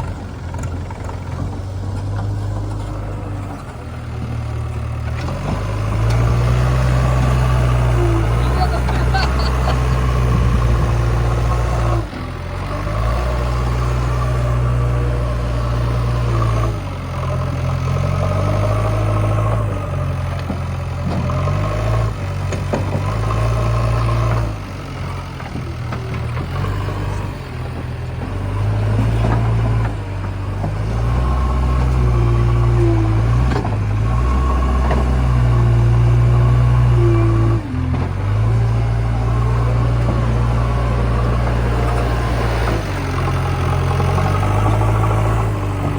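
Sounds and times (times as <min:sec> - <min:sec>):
diesel engine revving under load: 0:00.0 - 0:45.9.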